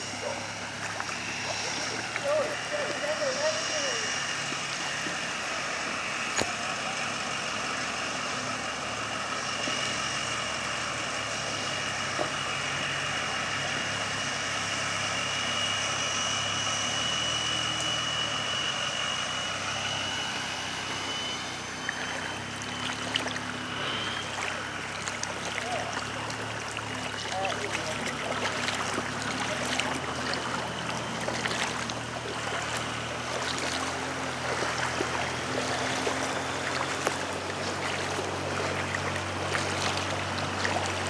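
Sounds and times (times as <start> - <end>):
engine droning: 0.0 - 41.0
steady whine: 0.0 - 41.0.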